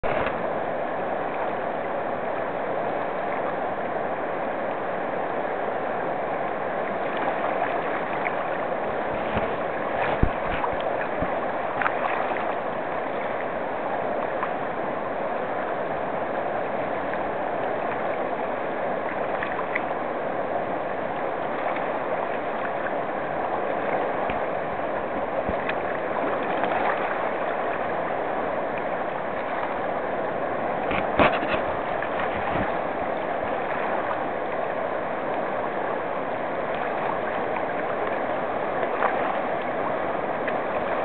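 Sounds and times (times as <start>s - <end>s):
river water rushing over rocks: 0.0s - 41.0s.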